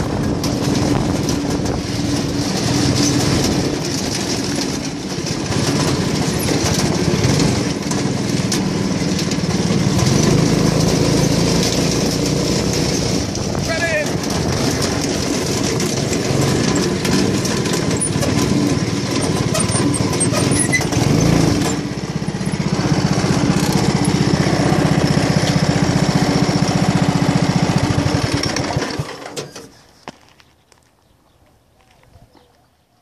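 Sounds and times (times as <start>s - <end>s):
go-kart engine running: 0.0s - 29.7s.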